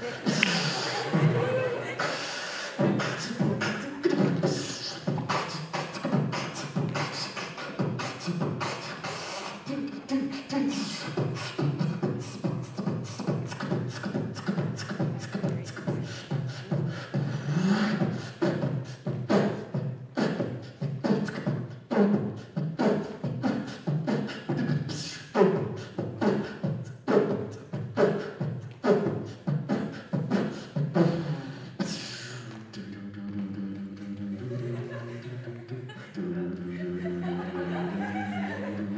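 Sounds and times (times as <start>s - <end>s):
beatboxing into a microphone: 0.0s - 38.9s.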